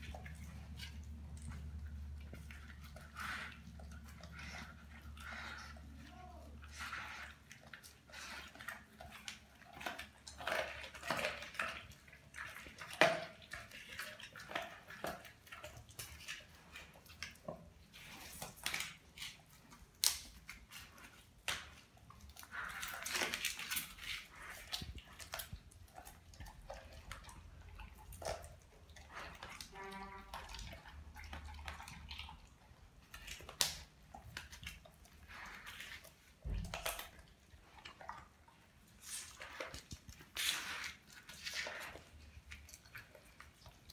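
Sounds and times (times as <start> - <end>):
dog chewing and licking: 0.0 - 43.9.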